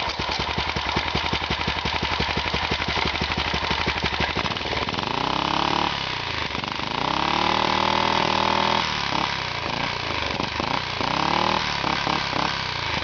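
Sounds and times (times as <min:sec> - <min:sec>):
small engine revving and idling: 0:00.0 - 0:13.0.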